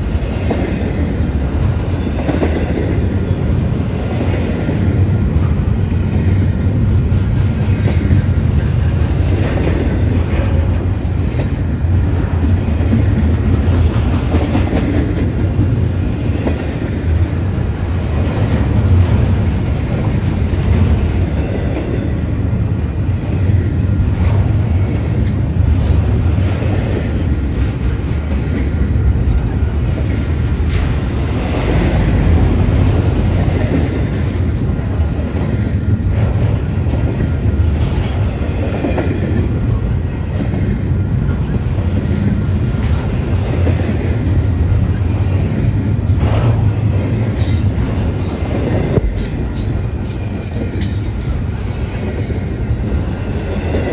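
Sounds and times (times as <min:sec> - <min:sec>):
freight train wheels rumbling on rail: 0:00.0 - 0:53.9
train cars clattering: 0:00.0 - 0:53.9.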